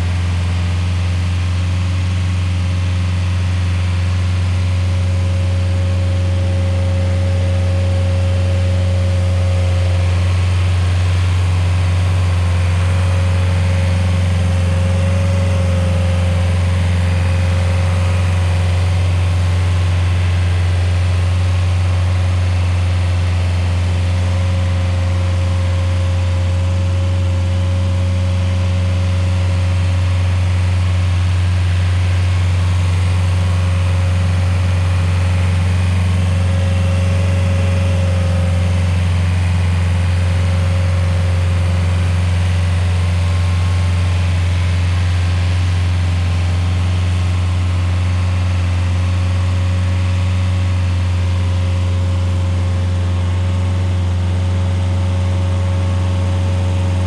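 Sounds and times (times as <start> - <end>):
stump grinder engine running: 0.0 - 57.0.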